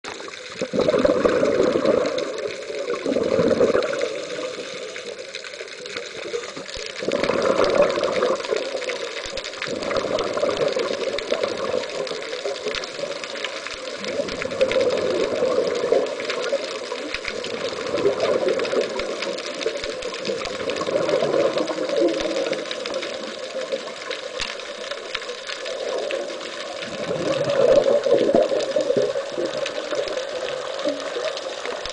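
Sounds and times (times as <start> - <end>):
exhaled bubbles underwater: 0.0 - 31.9
steady bubbling hiss: 0.0 - 31.9.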